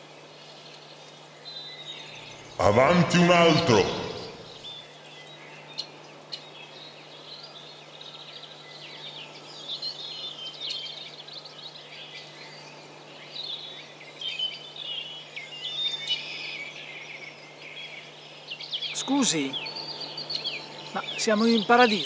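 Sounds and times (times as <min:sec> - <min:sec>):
birds chirping and singing: 0:00.0 - 0:22.0
steady low hum: 0:00.0 - 0:22.0.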